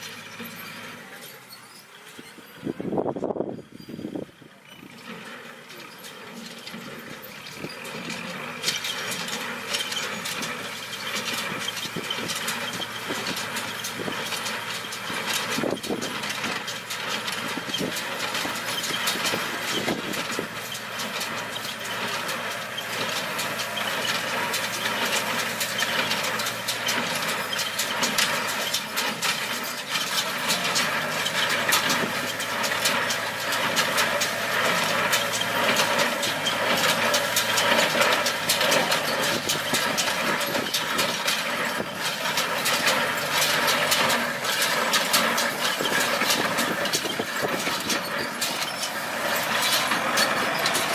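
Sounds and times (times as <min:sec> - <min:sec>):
tractor engine running: 0:00.0 - 0:50.9
mechanical clatter: 0:05.0 - 0:50.9.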